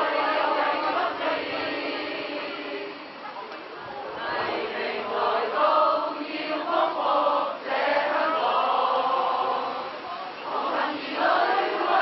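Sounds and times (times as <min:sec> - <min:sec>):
crowd singing in unison: 0:00.0 - 0:03.4, 0:04.0 - 0:12.0.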